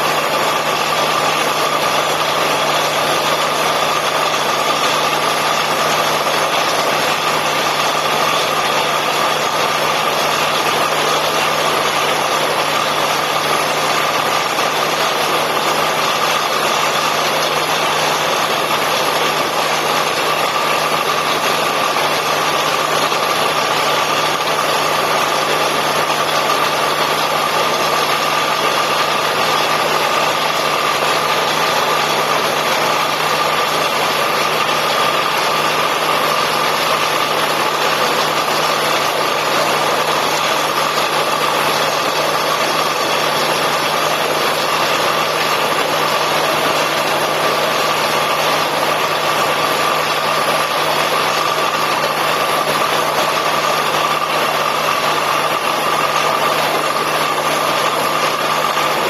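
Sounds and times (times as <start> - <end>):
drilling rig engine drone: 0.0 - 59.0.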